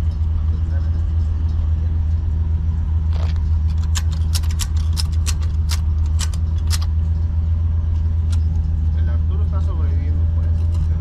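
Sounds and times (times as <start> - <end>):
tow truck engine drone: 0.0 - 11.0.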